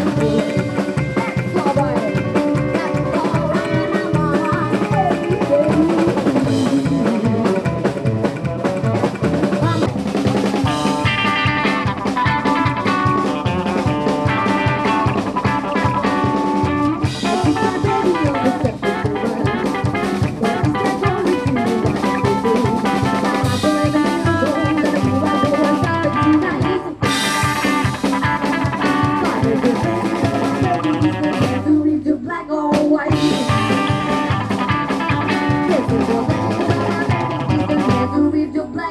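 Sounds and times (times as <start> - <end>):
upright double bass: 0.0 - 27.7, 28.3 - 31.8
drum kit: 0.0 - 31.8, 32.7 - 38.3
electric guitar: 0.0 - 38.9.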